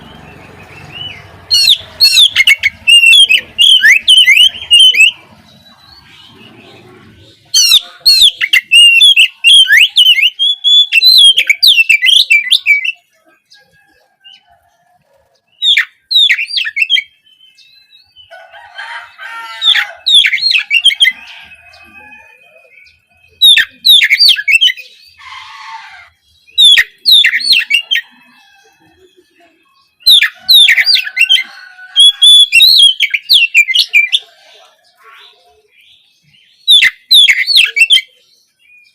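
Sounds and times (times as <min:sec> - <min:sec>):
bird singing whistles and chatter: 0:00.0 - 0:14.5, 0:15.2 - 0:18.3, 0:19.7 - 0:38.9.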